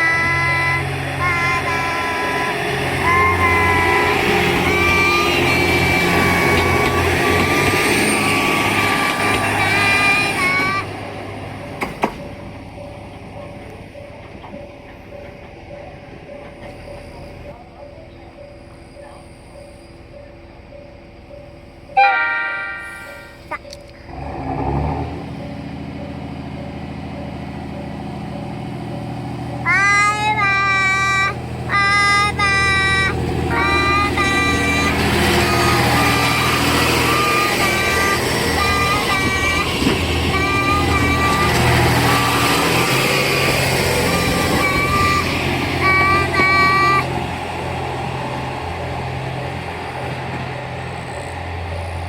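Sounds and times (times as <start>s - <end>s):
diesel train engine drone: 0.0s - 52.0s.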